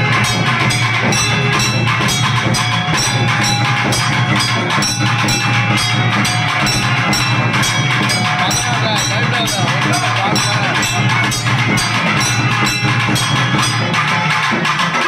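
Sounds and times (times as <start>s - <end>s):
fast driving drumming: 0.0s - 15.0s
steady held tones: 0.0s - 15.0s.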